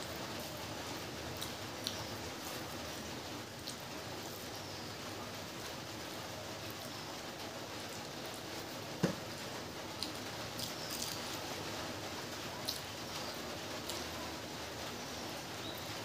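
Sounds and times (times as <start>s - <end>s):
light rain hissing: 0.0s - 16.0s.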